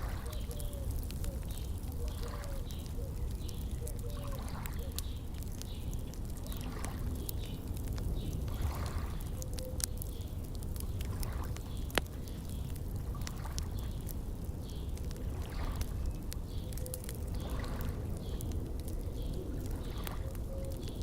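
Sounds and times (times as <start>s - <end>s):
water lapping at shore: 0.0s - 20.5s
wood fire crackling and popping: 0.0s - 21.0s.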